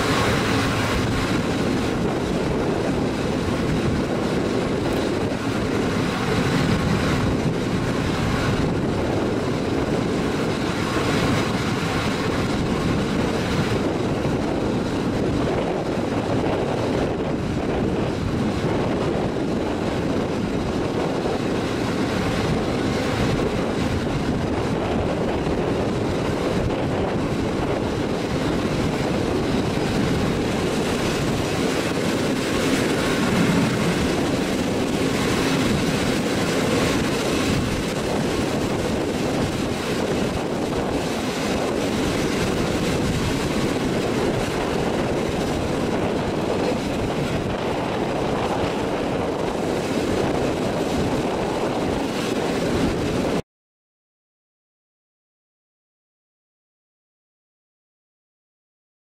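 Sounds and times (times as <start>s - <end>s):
train wheels rumbling on rails: 0.0s - 53.4s.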